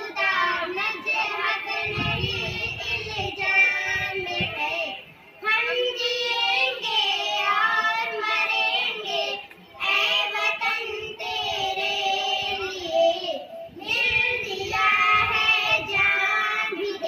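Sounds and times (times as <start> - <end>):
girls singing into a microphone: 0.0 - 17.0.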